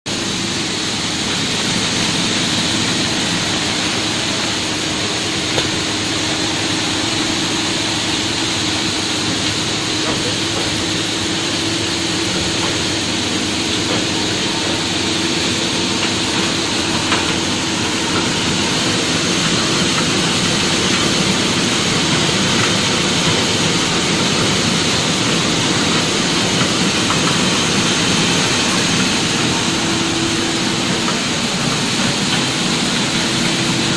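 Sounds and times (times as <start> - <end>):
mill machine running: 0.1 - 33.9.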